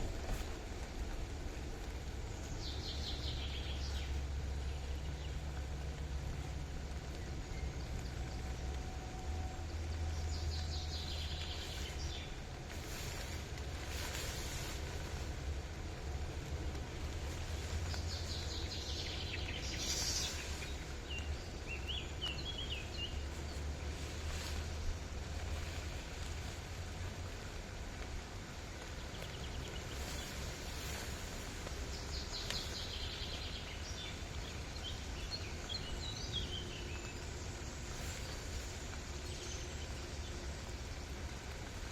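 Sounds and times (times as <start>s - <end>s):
low rumble: 0.0s - 41.9s
rustling: 0.0s - 41.9s
songbird chirping: 0.0s - 41.9s.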